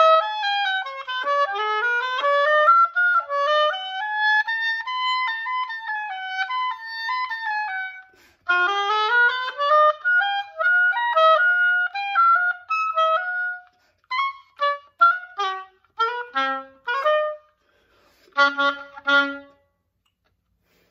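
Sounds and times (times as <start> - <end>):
solo oboe playing: 0.0 - 20.0.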